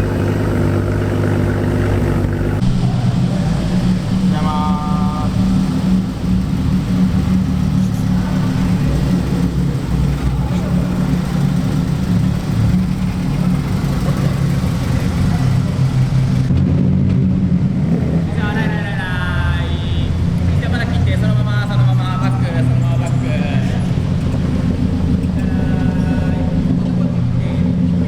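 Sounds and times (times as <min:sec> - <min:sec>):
car engine deep drone: 0:00.0 - 0:28.0.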